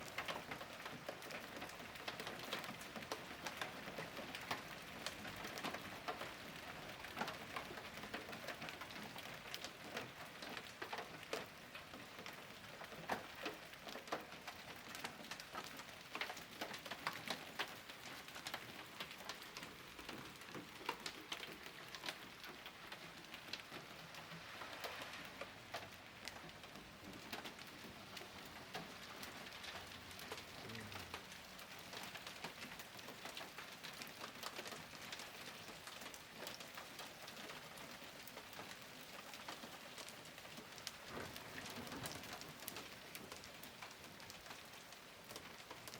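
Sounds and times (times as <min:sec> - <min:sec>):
hailstones ticking on hard surfaces: 0:00.0 - 0:45.9.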